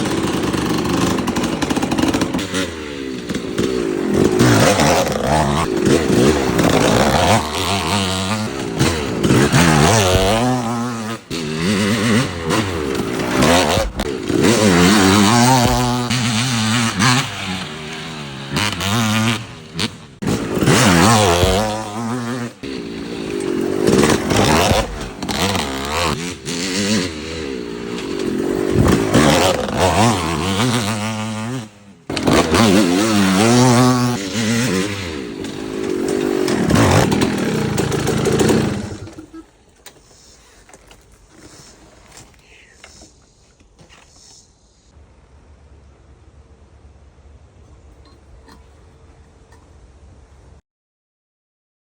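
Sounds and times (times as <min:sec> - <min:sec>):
dirt bike engine revving: 0:00.0 - 0:43.2.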